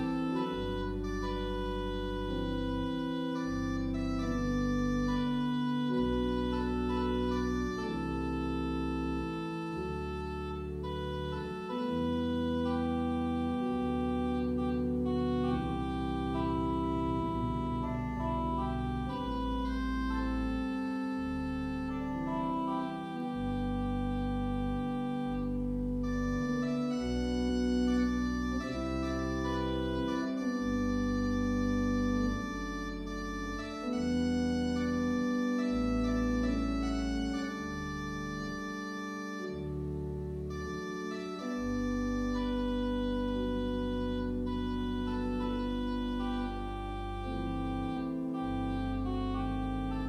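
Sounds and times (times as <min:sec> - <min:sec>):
church organ chords: 0:00.0 - 0:50.0
deep organ bass notes: 0:00.0 - 0:50.0.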